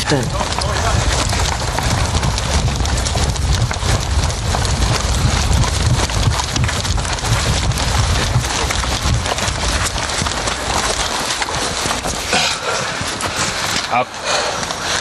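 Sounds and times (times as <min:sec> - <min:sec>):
pulsing low rumble: 0:00.0 - 0:12.8
boots running on grass: 0:00.0 - 0:15.0
rushing crackling noise: 0:00.0 - 0:15.0.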